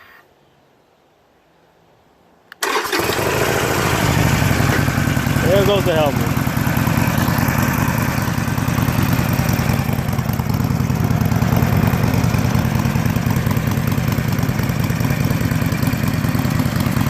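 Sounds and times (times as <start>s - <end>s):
motorcycle engine idling: 2.7s - 17.0s.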